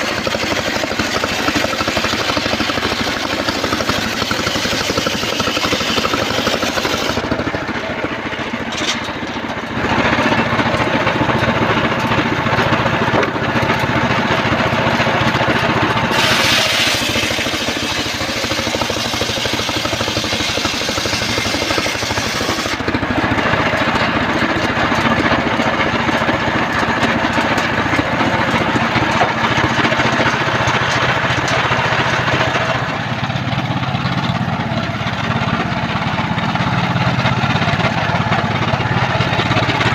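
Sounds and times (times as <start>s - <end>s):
circular sawmill sawing logs: 0.0s - 39.9s.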